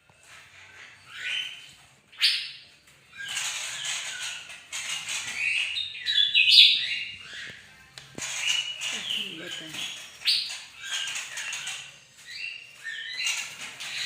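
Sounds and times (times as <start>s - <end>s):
songbird singing: 0.7s - 14.0s.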